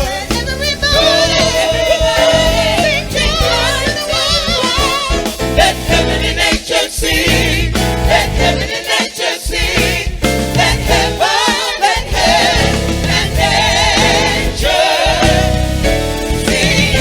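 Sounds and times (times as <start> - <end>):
choir singing gospel: 0.0 - 17.0
instrumental accompaniment: 0.0 - 17.0.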